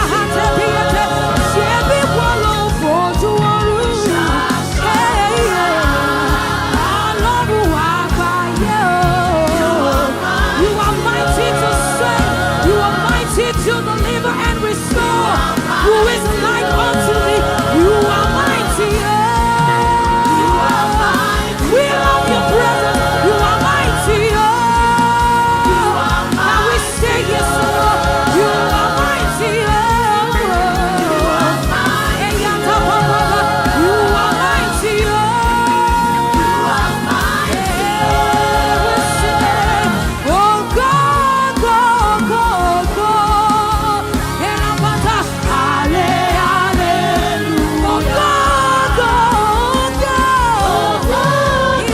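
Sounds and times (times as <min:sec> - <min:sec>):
band with steady beat: 0:00.0 - 0:51.9
gospel singing: 0:00.0 - 0:51.9.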